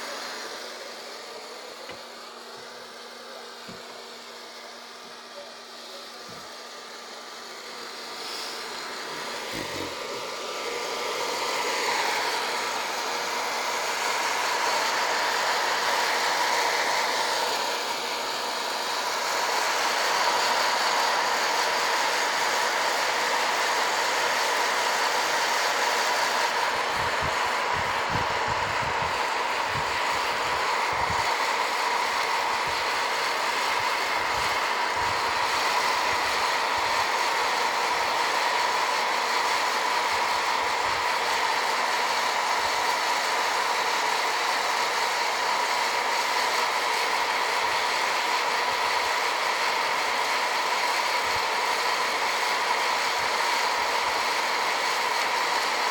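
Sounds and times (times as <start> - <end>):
popcorn popper fan whir: 0.0 - 55.9.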